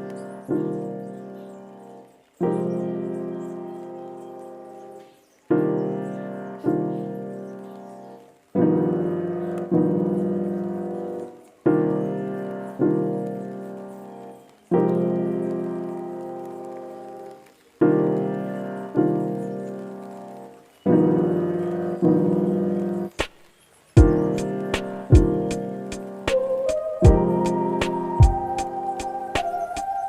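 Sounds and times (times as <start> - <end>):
slow piano chords: 0.0 - 23.2, 23.9 - 30.0.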